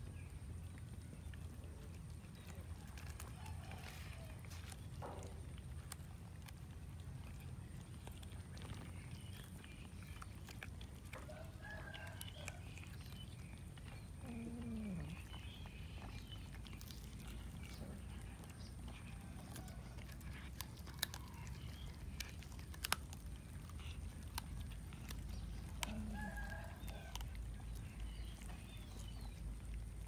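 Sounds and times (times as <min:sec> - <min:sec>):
cats chewing and crunching: 0:00.0 - 0:30.0.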